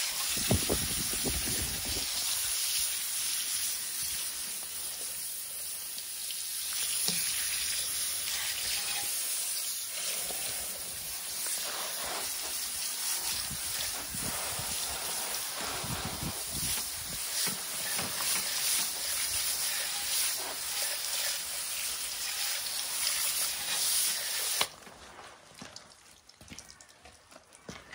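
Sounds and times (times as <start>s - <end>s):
hose nozzle spraying water: 0.0s - 24.8s.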